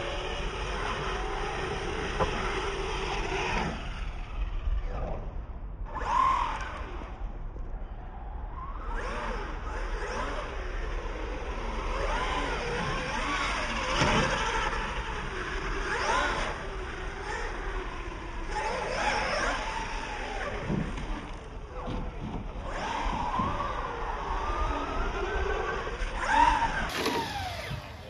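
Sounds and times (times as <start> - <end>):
electric toy truck motors whining: 0.0 - 28.0.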